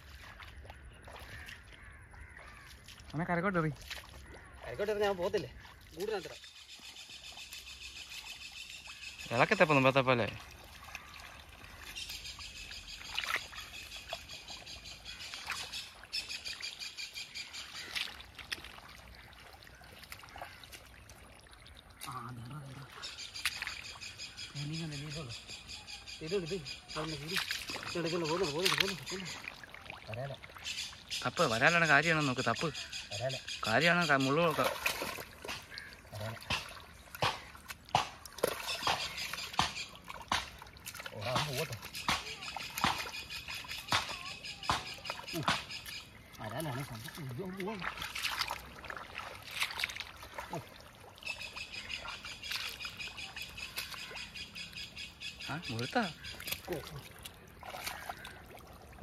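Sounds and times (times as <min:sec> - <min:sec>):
birds chirping: 0:00.0 - 0:21.1, 0:21.7 - 0:59.0
muddy water splashing and sloshing: 0:00.0 - 0:59.0.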